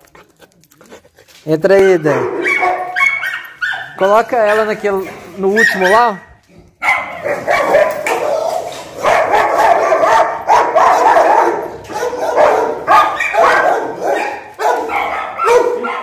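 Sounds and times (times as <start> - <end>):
dogs barking: 1.7 - 16.0.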